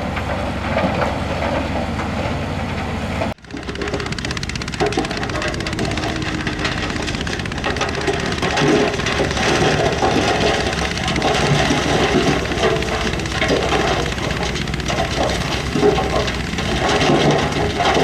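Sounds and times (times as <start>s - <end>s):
diesel engine of earthmoving equipment: 0.0s - 18.0s.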